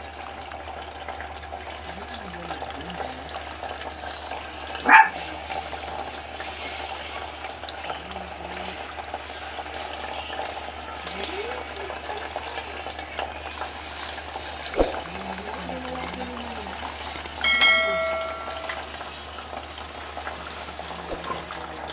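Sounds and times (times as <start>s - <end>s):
fountain water trickling: 0.0s - 21.9s.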